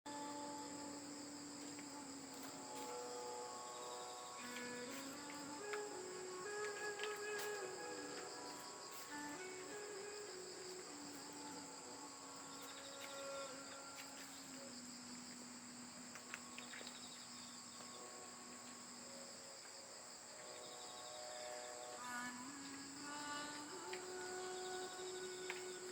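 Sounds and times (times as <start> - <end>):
crickets chirring: 0.1 - 25.9
soft background music: 0.1 - 25.9.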